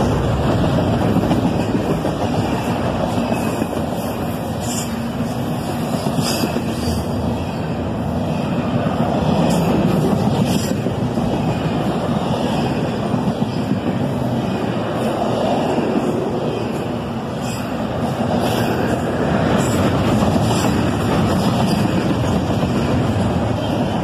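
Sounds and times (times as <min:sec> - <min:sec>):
steel wheels rumbling on rail: 0:00.0 - 0:24.0.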